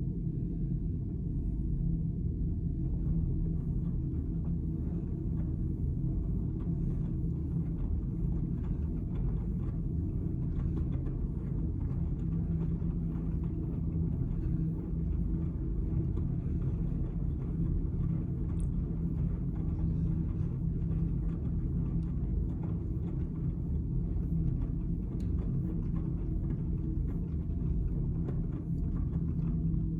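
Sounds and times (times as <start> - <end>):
washing machine rumbling: 3.0 - 29.9.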